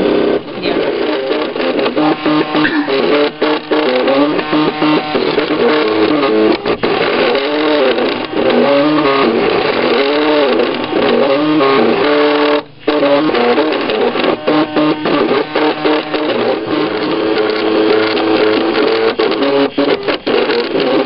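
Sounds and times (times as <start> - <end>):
stepper motors singing: 0.6 - 20.0.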